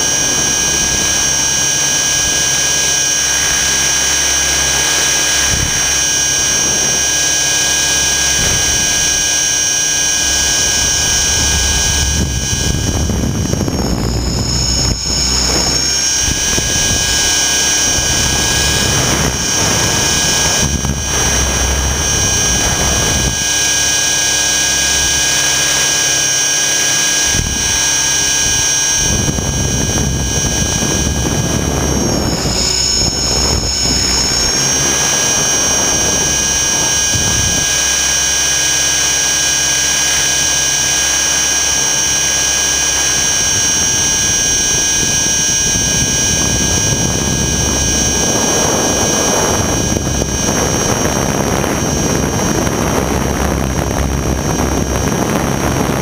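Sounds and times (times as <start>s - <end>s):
high-pitched motor whine: 0.0s - 56.0s
rotor and wind noise: 0.0s - 56.0s.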